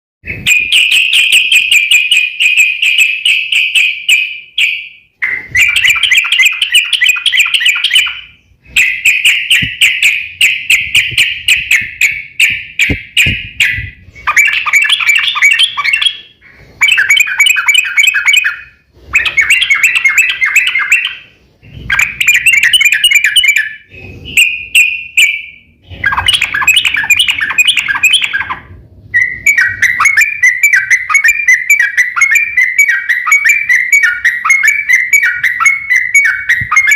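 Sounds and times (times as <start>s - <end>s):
bird singing chattering phrases: 0.4s - 36.9s.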